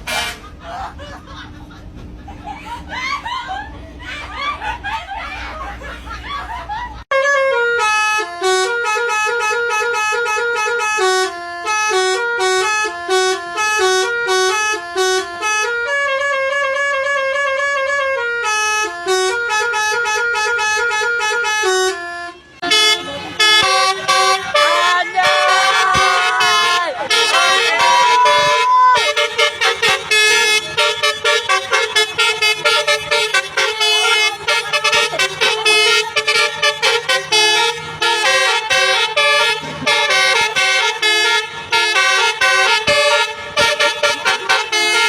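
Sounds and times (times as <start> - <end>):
multi-tone bus horn playing a tune: 0.0 - 1.3, 4.1 - 45.0.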